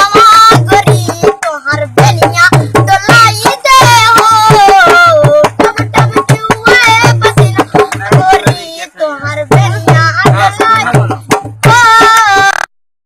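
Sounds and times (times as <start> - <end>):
child singing: 0.0 - 12.7
hand drum beat: 0.0 - 12.7.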